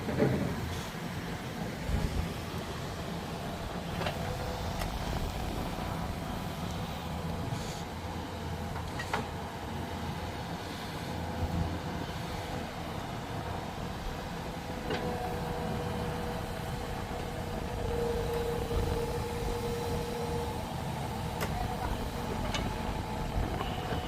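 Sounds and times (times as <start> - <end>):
diesel machinery rumbling: 0.0 - 24.0
steady machine whine: 1.8 - 24.0.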